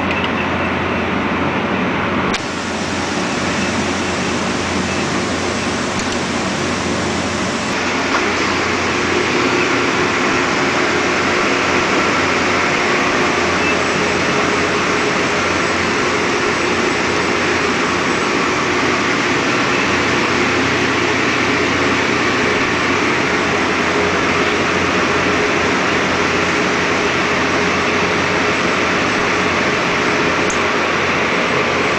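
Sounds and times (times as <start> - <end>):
faint hum tones: 0.0 - 31.9
steady mechanical drone: 0.0 - 31.9.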